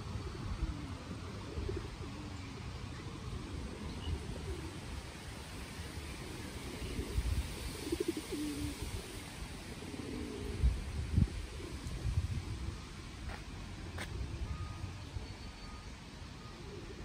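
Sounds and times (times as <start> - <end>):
pigeons cooing: 0.1 - 13.4, 16.4 - 17.0.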